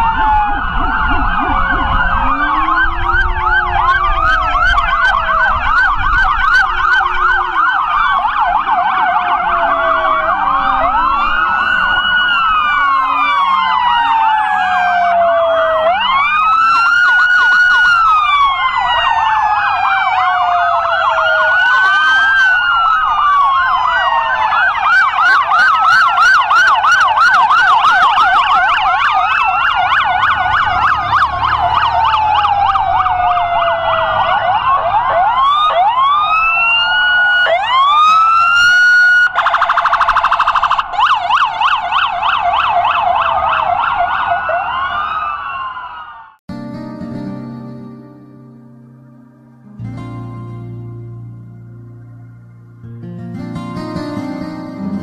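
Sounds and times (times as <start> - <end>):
sirens yelping: 0.0 - 46.7, 47.5 - 55.0
sirens wailing: 0.0 - 55.0.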